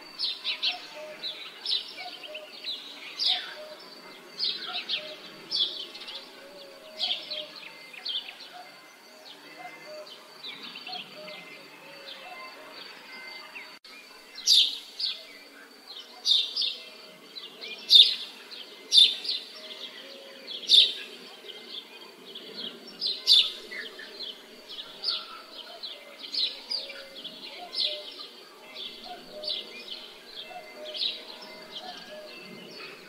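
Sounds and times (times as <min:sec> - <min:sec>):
faint village ambience: 0:00.0 - 0:33.0
songbirds chirping: 0:00.0 - 0:33.0.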